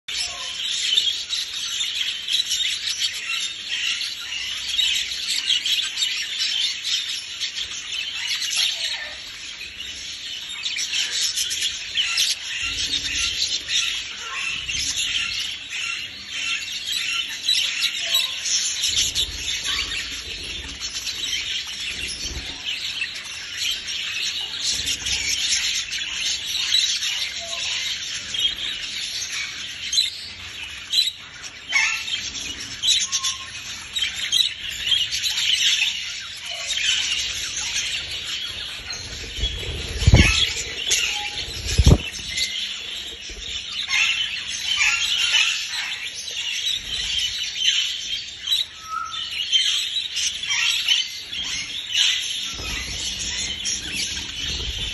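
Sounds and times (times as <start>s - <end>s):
budgerigars chattering: 10.5s - 54.9s.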